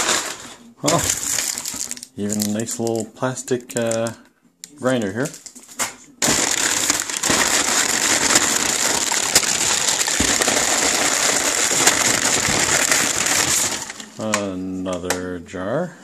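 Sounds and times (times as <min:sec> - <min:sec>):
paper crumpling and rustling: 0:00.0 - 0:04.2, 0:05.0 - 0:14.4.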